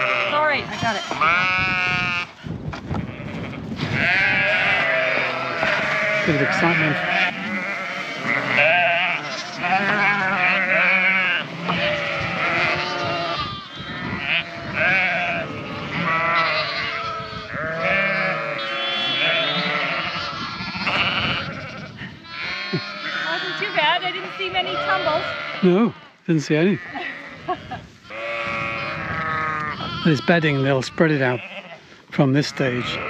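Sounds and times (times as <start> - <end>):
sheep and lambs bleating: 0.0 - 33.0.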